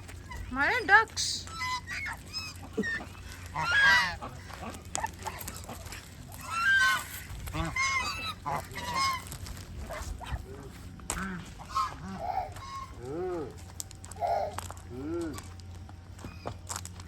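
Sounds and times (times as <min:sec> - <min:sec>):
waterfowl calling: 0:00.0 - 0:15.5.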